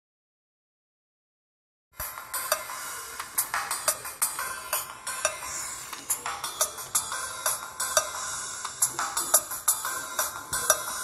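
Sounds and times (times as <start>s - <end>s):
background music with percussive beat: 2.0s - 11.0s.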